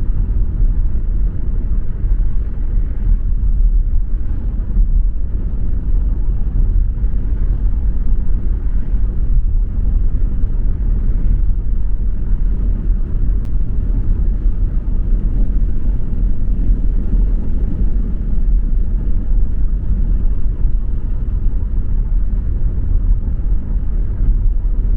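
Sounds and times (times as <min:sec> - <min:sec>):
car driving: 0:00.0 - 0:24.9.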